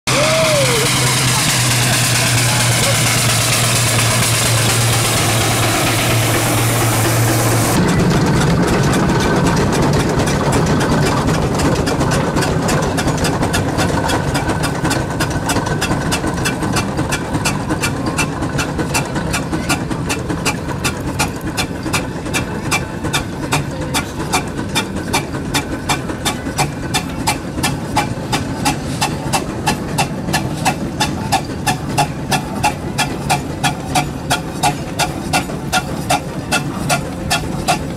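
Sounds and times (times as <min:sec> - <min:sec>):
steady engine hum: 0:00.0 - 0:37.9
steam engine exhaust chuffing: 0:00.1 - 0:37.9.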